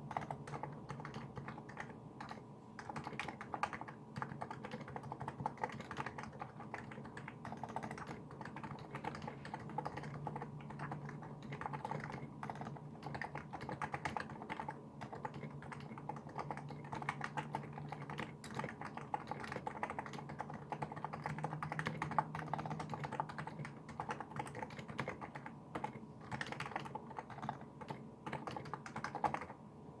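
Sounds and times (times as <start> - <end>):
fast keyboard typing: 0.0 - 29.6.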